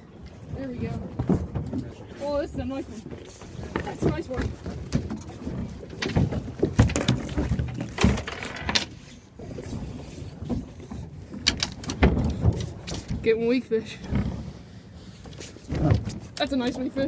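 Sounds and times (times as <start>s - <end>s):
knocks and thumps on boat deck: 0.2s - 17.0s.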